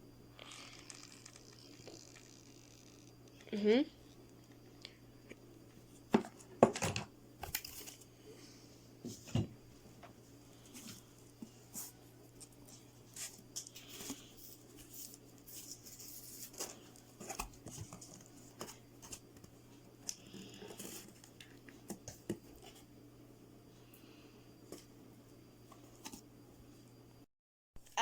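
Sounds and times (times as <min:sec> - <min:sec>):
faint low hum: 0:00.0 - 0:27.3.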